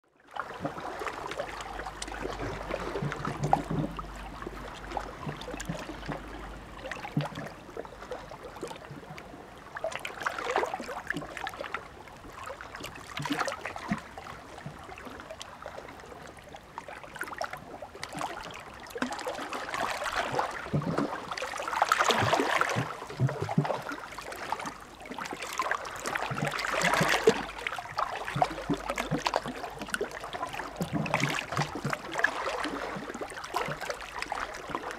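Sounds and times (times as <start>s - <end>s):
small waves lapping on shore: 0.2s - 34.9s.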